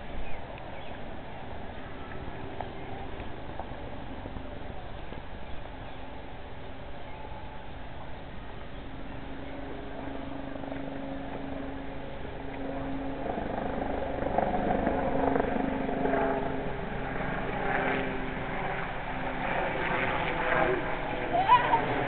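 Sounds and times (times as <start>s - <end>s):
street noise: 0.0s - 22.0s.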